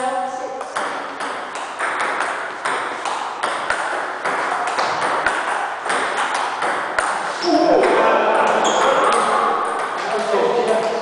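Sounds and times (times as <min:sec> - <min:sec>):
table tennis ball hits: 0:00.6 - 0:11.0.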